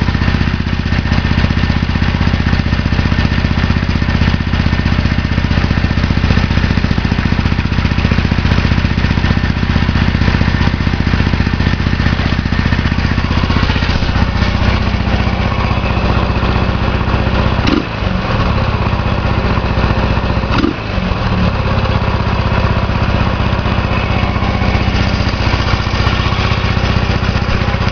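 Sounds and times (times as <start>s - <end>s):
motorcycle engine fast idle: 0.0s - 27.9s.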